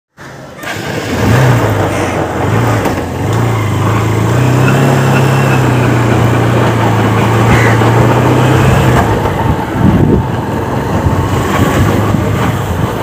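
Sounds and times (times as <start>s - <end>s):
motorcycle engine revving and idling: 0.6s - 13.0s.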